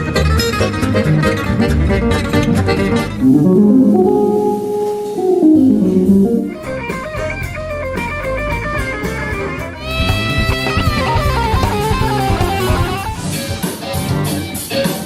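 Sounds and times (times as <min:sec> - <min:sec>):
electric guitar blues lick: 0:00.0 - 0:15.0
backing track drums: 0:02.1 - 0:15.0.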